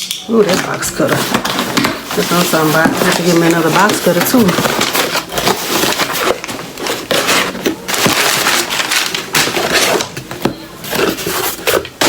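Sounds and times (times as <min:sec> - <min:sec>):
packaging rustling and crinkling: 0:00.3 - 0:12.0.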